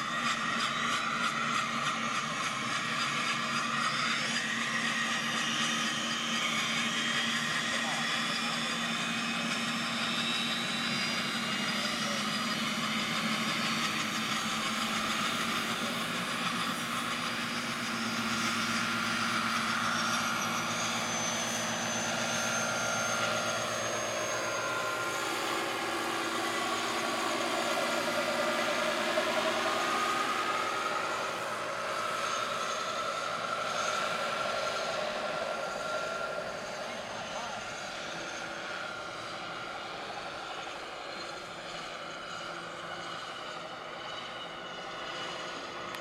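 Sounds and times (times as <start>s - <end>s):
model helicopter rotor whine: 0.0s - 46.0s.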